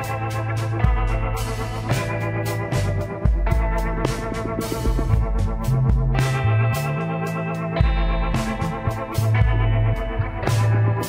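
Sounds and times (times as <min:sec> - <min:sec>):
stepping bass line: 0:00.0 - 0:11.0
sustained keyboard chords: 0:00.0 - 0:11.0.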